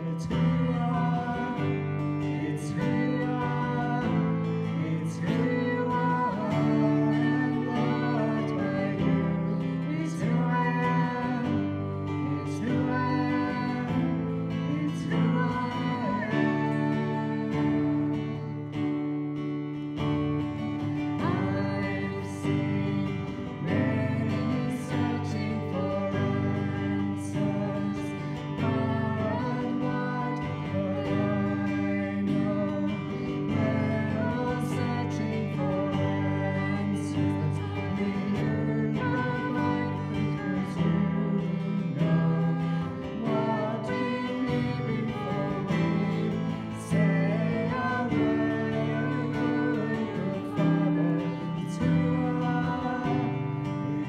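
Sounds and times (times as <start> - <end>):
person singing: 0.0 - 19.1, 20.0 - 54.0
acoustic guitar: 0.0 - 54.0
keyboard: 0.0 - 54.0.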